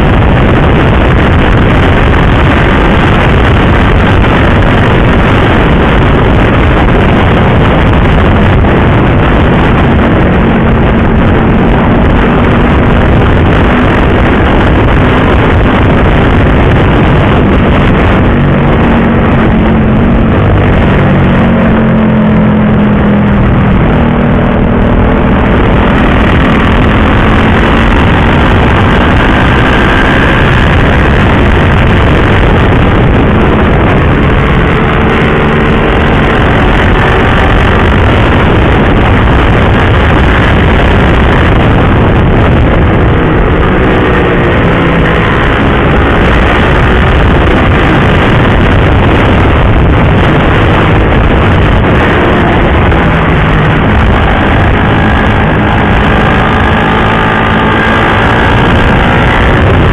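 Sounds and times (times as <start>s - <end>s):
loud wind rush on microphone: 0.0s - 59.9s
motorcycle engine: 0.0s - 59.9s.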